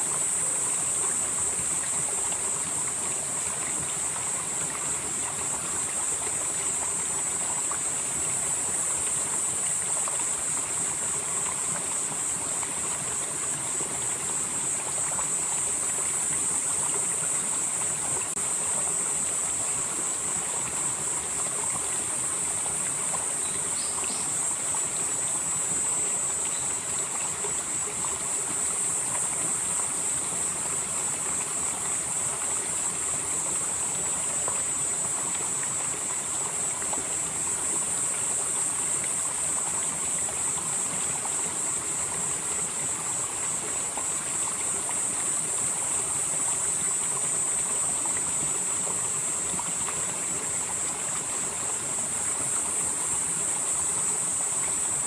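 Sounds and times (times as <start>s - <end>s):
insects chirring: 0.0s - 55.0s
stream flowing: 0.0s - 55.0s.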